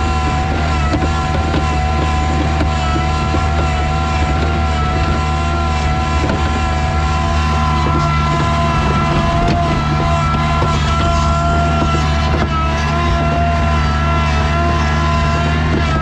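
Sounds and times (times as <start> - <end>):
engine running steadily: 0.0 - 16.0
high-pitched whine: 2.7 - 16.0.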